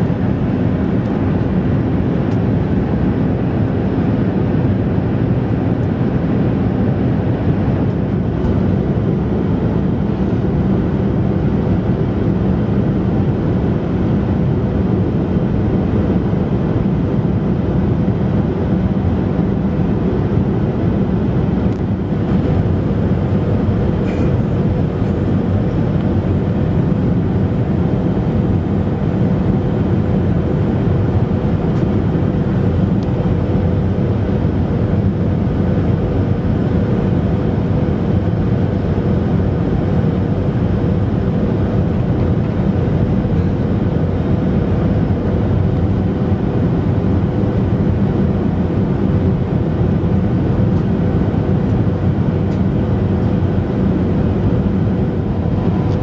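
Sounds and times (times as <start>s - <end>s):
jet engines in cabin: 0.0s - 56.0s.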